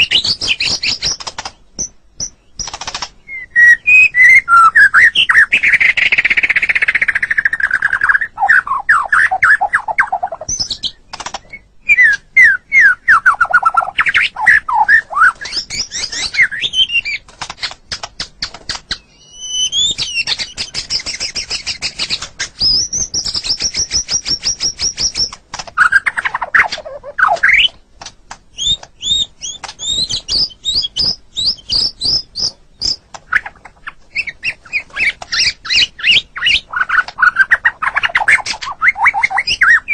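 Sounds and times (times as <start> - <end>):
songbird singing varied song: 0.0 - 27.9, 28.5 - 39.9.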